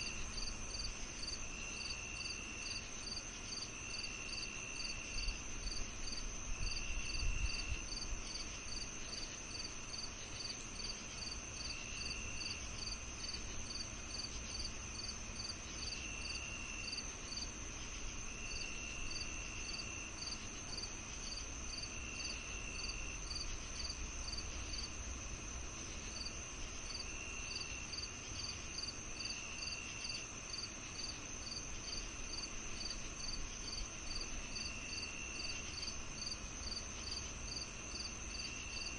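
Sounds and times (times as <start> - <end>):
crickets trilling and chirping: 0.0 - 38.9.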